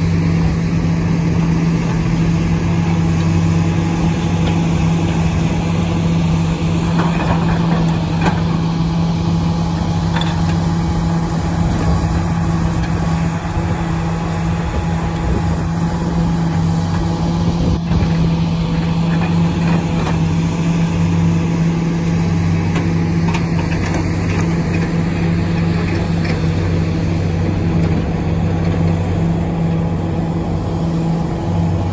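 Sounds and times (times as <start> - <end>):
heavy machinery diesel engines: 0.0 - 31.9.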